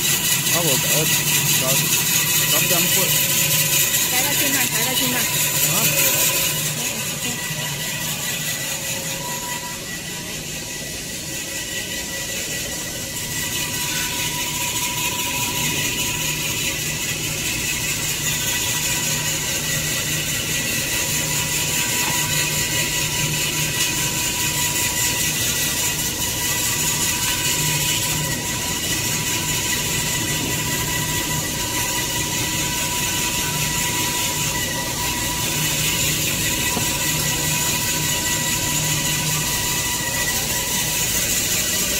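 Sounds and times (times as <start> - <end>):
high machine whine: 0.0 - 41.9
machinery hum: 0.0 - 41.9.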